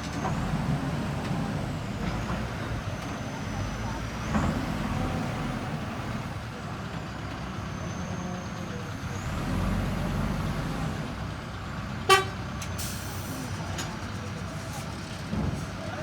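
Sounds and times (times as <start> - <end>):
diesel machinery rumbling: 0.0 - 16.0.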